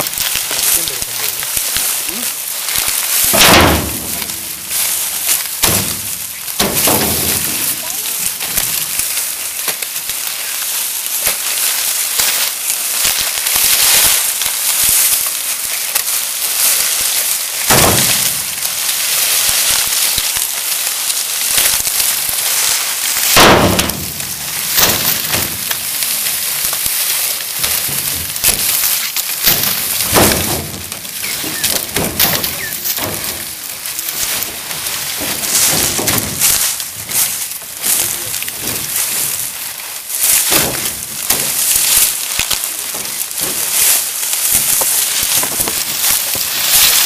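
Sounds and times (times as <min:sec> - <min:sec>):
dry stalks crackling and rustling: 0:00.0 - 0:47.0.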